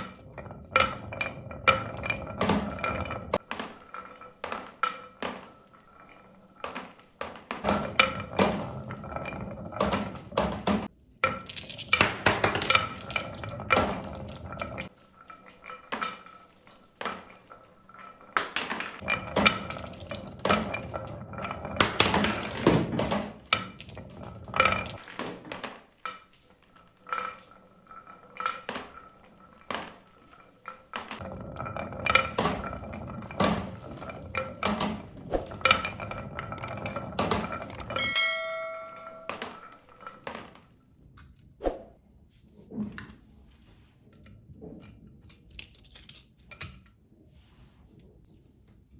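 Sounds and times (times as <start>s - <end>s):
marbles rolling and clattering: 0.0s - 40.8s.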